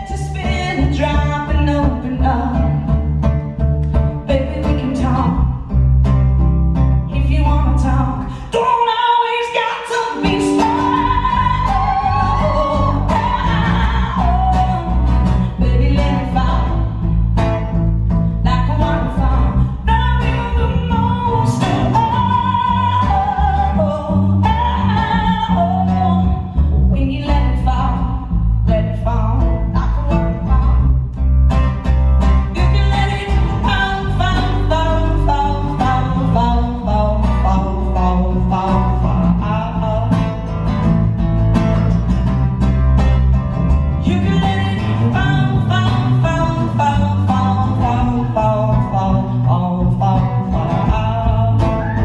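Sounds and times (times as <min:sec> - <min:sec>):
woman singing: 0:00.0 - 0:03.1, 0:04.2 - 0:05.8, 0:07.1 - 0:17.2, 0:18.3 - 0:31.1, 0:32.4 - 0:40.5, 0:44.0 - 0:52.0
electric guitar: 0:00.0 - 0:08.6, 0:09.7 - 0:52.0
bass guitar: 0:00.0 - 0:08.8, 0:09.9 - 0:52.0
strummed acoustic guitar: 0:10.0 - 0:52.0.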